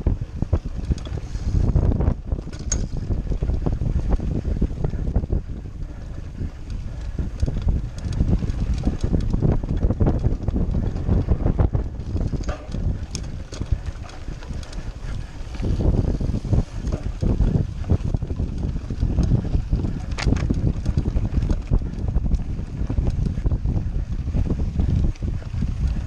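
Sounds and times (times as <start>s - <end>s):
bike rattling and clicking: 0.0s - 26.0s
wind buffeting microphone: 0.0s - 26.0s.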